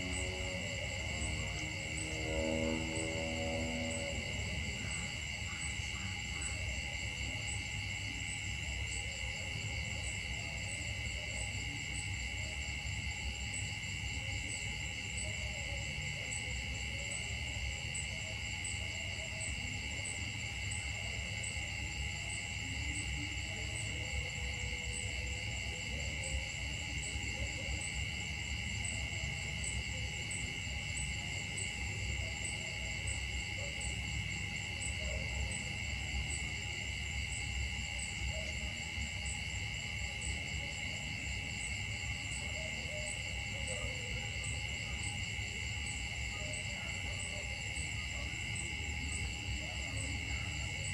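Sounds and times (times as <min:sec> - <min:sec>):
insect chorus: 0:00.0 - 0:50.9.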